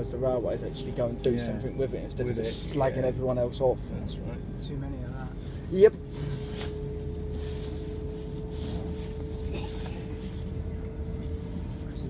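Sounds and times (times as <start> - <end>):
steady hum tone: 0.0 - 12.0
train interior rumble: 0.0 - 12.0.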